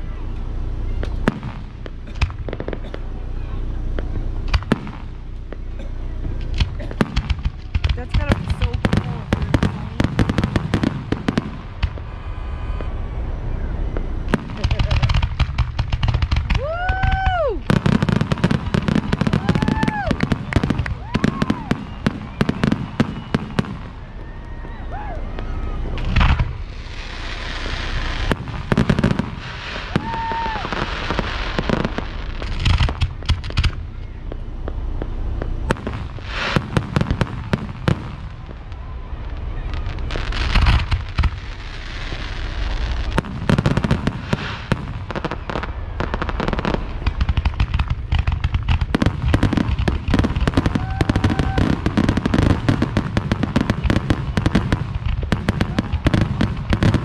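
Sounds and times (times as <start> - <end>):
firework crackling: 0.0 - 57.0
firework shells booming: 0.3 - 13.0, 13.8 - 57.0.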